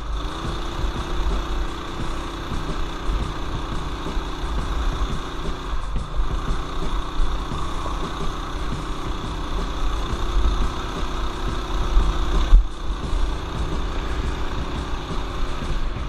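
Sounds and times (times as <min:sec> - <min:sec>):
mini bike engine running: 0:00.0 - 0:16.0.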